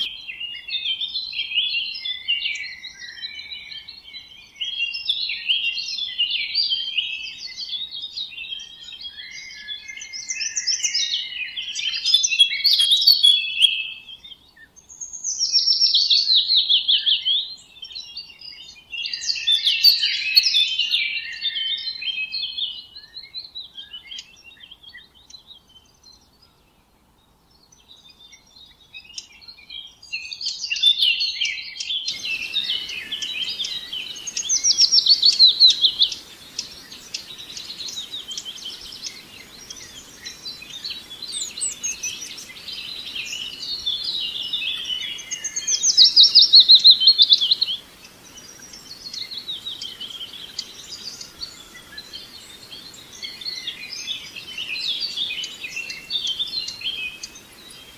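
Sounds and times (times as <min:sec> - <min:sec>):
faint steady hiss: 0:00.0 - 0:57.9
songbirds chirping and singing: 0:00.0 - 0:57.9.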